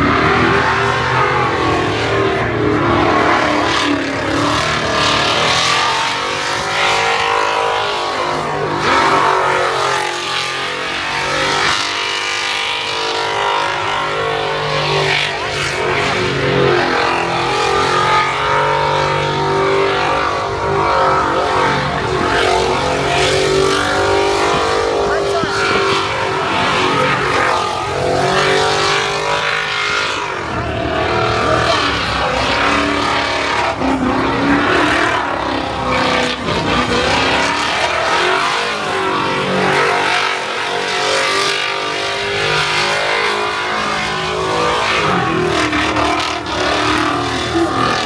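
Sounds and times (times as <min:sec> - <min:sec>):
car engine revving: 0:00.0 - 0:48.0
steady engine drone: 0:00.0 - 0:48.0.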